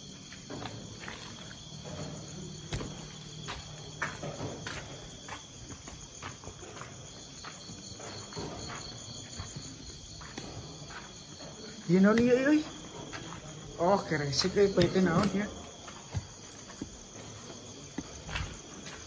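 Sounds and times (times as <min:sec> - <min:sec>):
crickets chirring: 0:00.0 - 0:19.0
soft knocks and scuffs: 0:00.2 - 0:13.8, 0:14.4 - 0:19.0.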